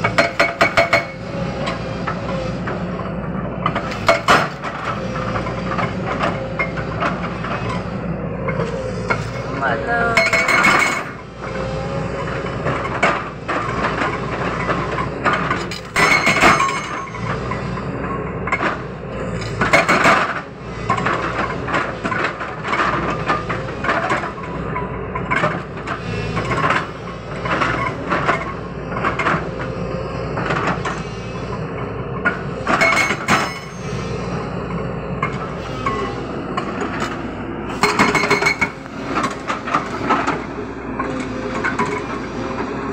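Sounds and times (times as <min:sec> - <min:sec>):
hydraulic breaker hammering rock: 0:00.0 - 0:03.0, 0:03.6 - 0:07.9, 0:08.5 - 0:17.6, 0:18.5 - 0:31.6, 0:32.2 - 0:34.4, 0:35.2 - 0:42.7
excavator engine running: 0:00.0 - 0:42.9.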